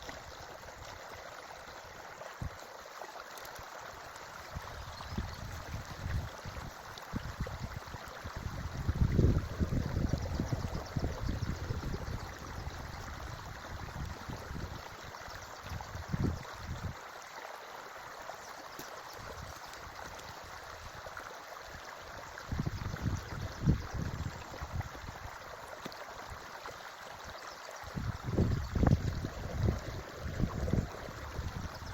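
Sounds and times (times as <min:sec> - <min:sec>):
creek water running: 0:00.0 - 0:31.9.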